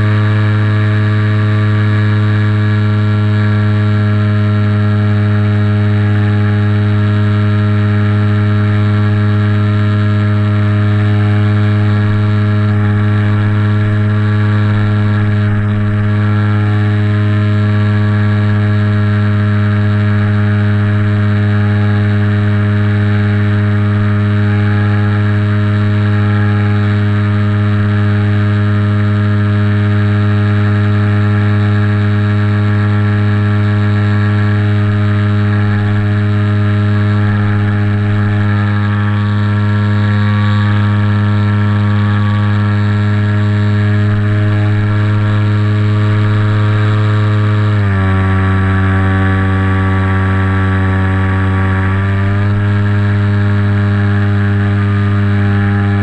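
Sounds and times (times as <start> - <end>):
model aircraft motor droning: 0.0 - 56.0.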